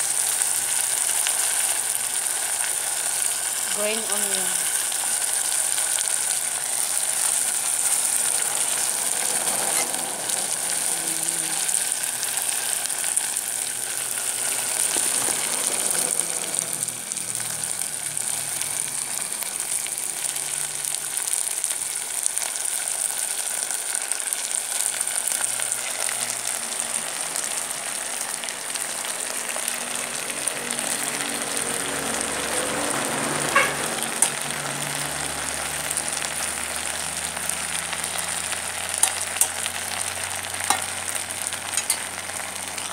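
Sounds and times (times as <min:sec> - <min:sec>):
food sizzling in a pan: 0:00.0 - 0:42.9.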